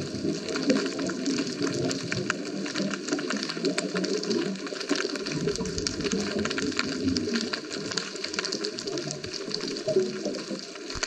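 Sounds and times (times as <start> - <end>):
churning water rumble: 0.0 - 10.9
underwater crackle of clicks: 0.0 - 11.0.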